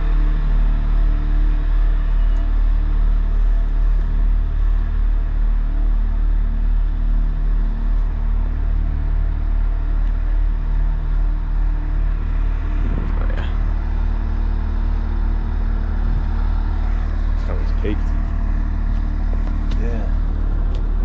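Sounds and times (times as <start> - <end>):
large engine droning: 0.0 - 21.0.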